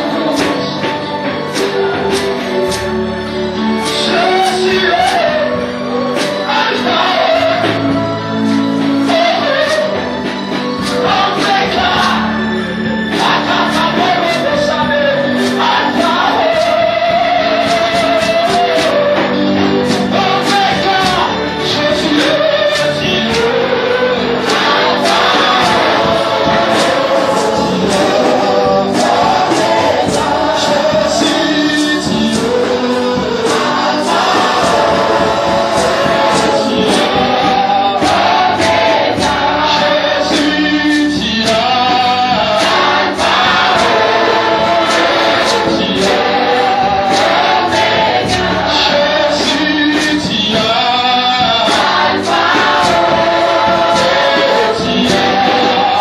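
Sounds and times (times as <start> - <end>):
choir singing with a band: 0.0 - 56.0.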